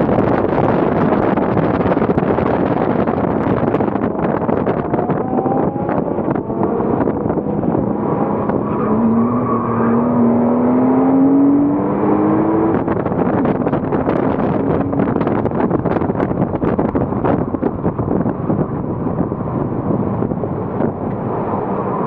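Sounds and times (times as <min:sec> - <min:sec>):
car engine accelerating hard: 0:00.0 - 0:22.0
wind and road noise: 0:00.0 - 0:22.0.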